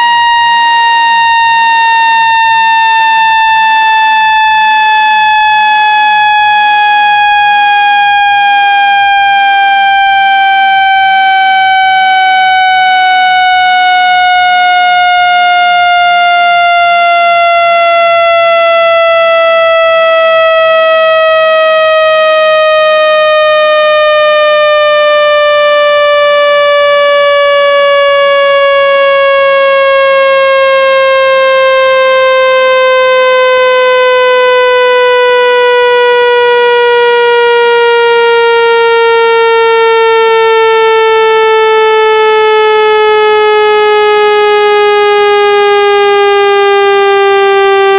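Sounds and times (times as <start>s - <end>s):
buzzy tone sliding down in pitch: 0.0s - 47.9s.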